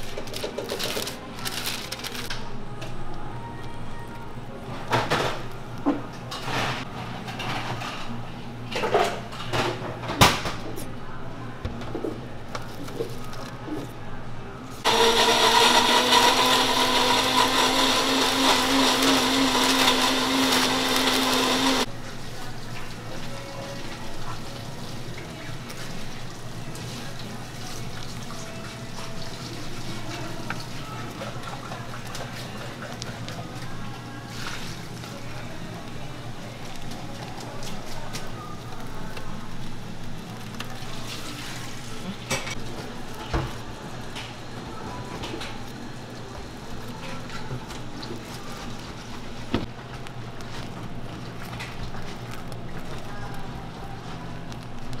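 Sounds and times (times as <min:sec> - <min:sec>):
low kitchen hum: 0:00.0 - 0:55.0.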